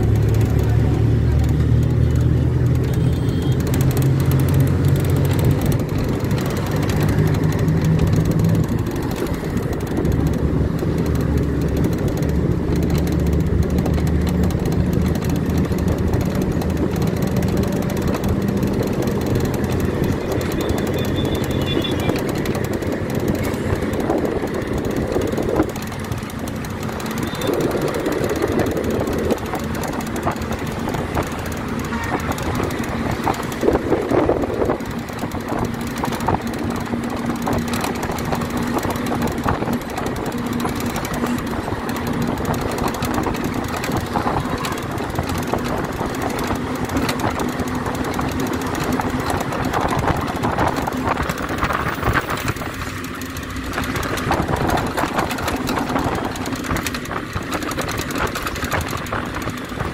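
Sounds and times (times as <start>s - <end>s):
bus engine hum: 0.0s - 59.9s
tyres rumbling on road: 0.0s - 59.9s.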